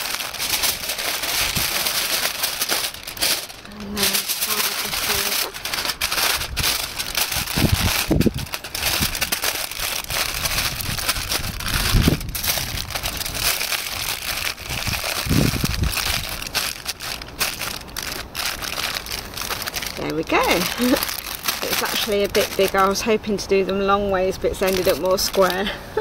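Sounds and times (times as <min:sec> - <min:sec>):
aluminium foil crinkling: 0:00.0 - 0:25.7.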